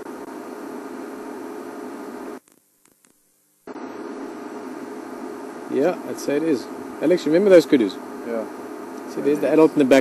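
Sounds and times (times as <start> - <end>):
static hum and hiss: 0.0 - 10.0.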